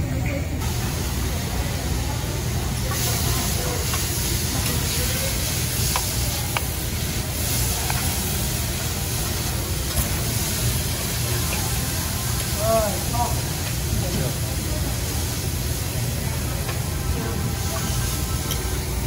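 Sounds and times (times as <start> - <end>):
food sizzling on a griddle: 0.6 - 19.0.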